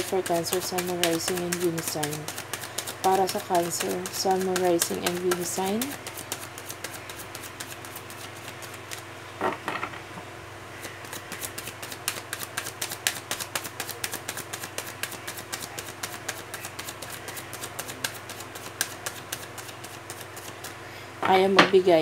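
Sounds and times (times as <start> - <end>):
cards being shuffled: 0.0 - 9.1, 10.8 - 20.8
steady low hum: 0.0 - 22.0.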